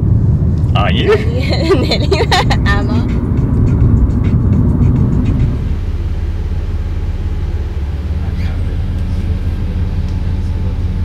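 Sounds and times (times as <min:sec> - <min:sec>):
car engine and tyres rumble: 0:00.0 - 0:11.0.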